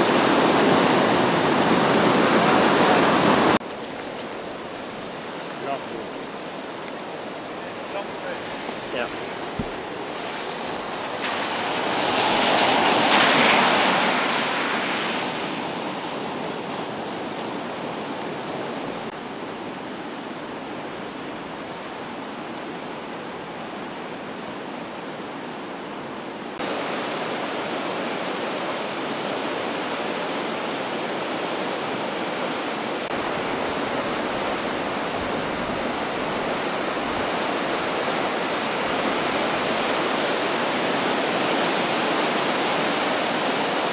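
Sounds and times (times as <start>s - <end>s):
floodwater rushing in creek: 0.0s - 43.9s.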